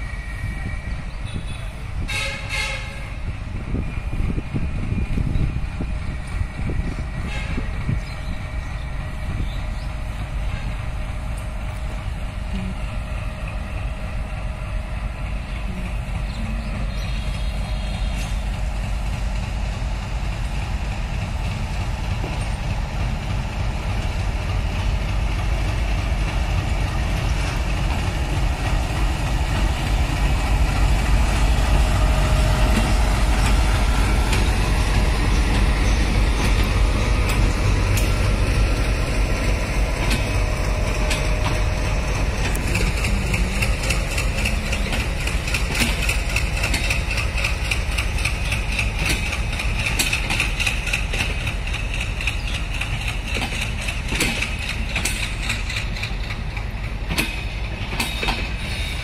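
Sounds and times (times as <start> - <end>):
diesel locomotive engine rumble: 0.0 - 59.0
train coaches rolling on rails: 0.0 - 59.0.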